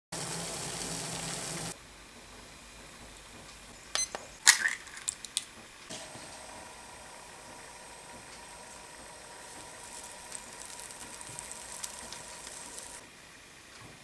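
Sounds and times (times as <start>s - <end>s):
water boiling in a saucepan: 0.1s - 3.8s, 4.8s - 14.0s.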